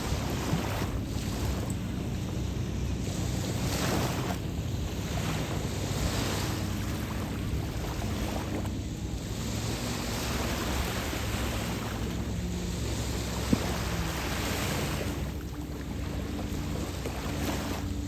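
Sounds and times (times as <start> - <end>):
waves washing onto beach: 0.0 - 18.0
wind rumble on microphone: 0.0 - 18.0.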